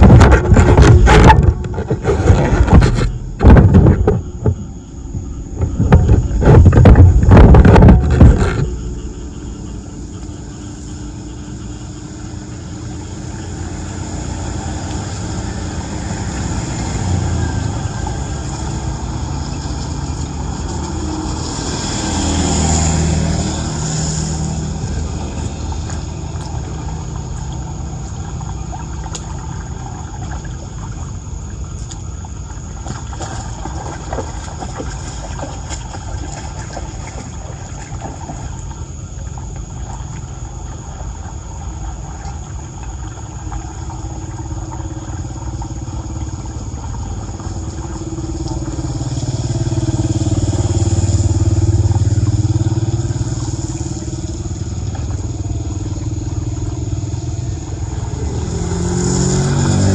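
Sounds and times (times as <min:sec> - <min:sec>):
steady low rumble: 0:00.0 - 0:58.5
motor vehicle passing: 0:00.0 - 0:59.9.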